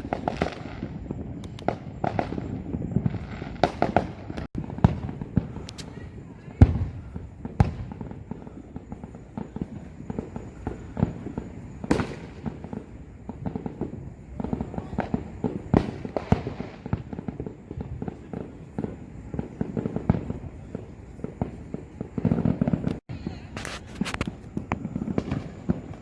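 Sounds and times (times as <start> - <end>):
fireworks pops and crackles: 0.0 - 26.0
loud firework bangs: 0.0 - 26.0.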